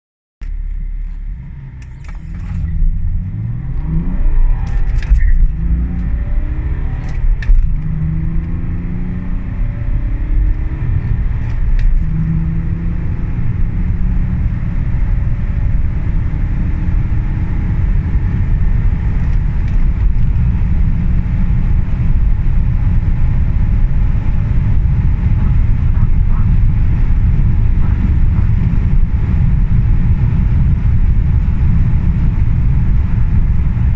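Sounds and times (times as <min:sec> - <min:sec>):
diesel car engine accelerating: 0:00.4 - 0:33.9
road and wind rumble: 0:00.4 - 0:33.9.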